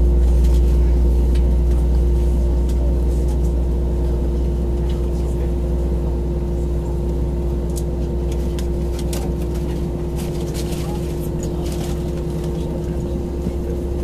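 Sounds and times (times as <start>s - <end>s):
higher steady hum: 0.0s - 14.0s
low aircraft cabin drone: 0.0s - 14.0s.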